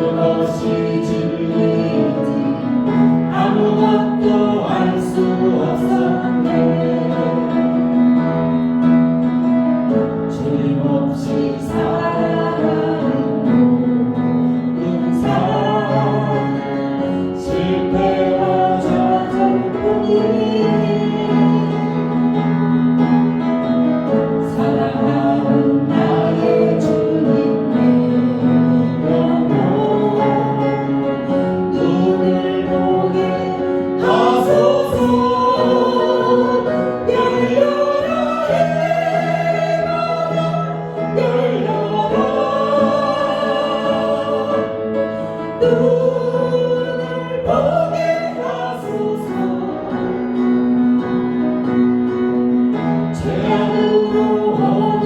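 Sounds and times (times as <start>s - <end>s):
group of voices singing: 0.0s - 8.9s, 9.8s - 22.6s, 24.1s - 50.8s, 53.0s - 55.0s
instrumental accompaniment: 0.0s - 55.0s.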